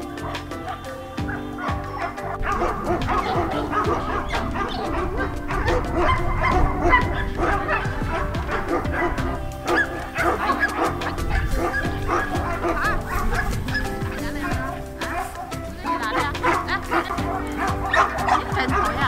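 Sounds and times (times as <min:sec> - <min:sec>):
background music: 0:00.0 - 0:19.0
dogs yipping and whining: 0:00.0 - 0:19.0.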